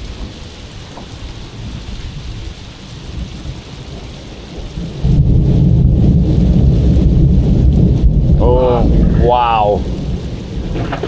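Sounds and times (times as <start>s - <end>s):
rolling thunder: 0.0s - 11.0s
steady rain: 0.0s - 11.0s.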